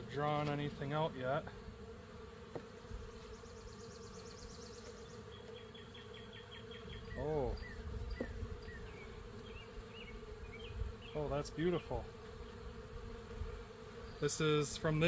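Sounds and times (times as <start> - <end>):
bees buzzing: 0.0 - 15.0
loud bee buzz bending in pitch: 0.0 - 15.0.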